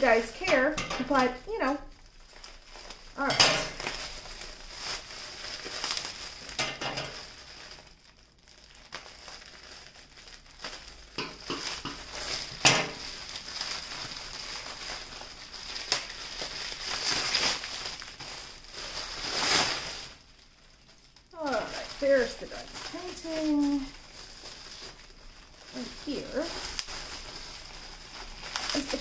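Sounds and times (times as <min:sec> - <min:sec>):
bubble wrap crinkling and rustling: 0:00.0 - 0:29.0
sharp crackle: 0:00.0 - 0:29.0.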